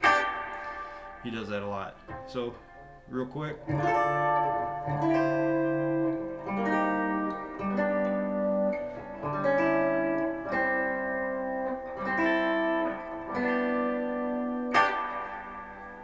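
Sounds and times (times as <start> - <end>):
electric guitar strumming chords: 0.0 - 16.0.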